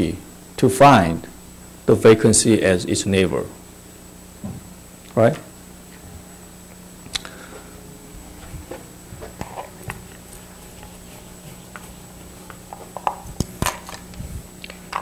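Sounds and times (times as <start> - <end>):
electrical hum: 0.0 - 15.0
faint high whine: 0.0 - 15.0.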